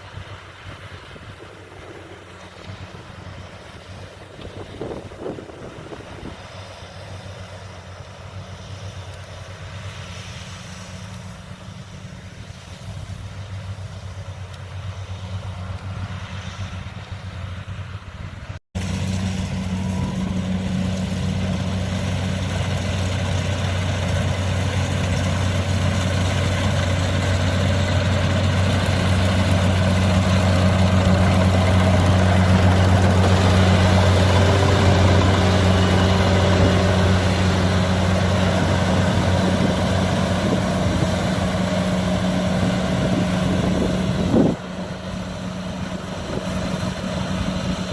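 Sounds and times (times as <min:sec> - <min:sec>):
diesel engine humming: 0:00.0 - 0:47.9.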